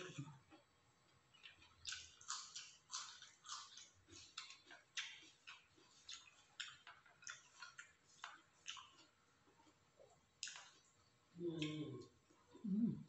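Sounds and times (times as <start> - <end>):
person chewing food: 0.0 - 12.6.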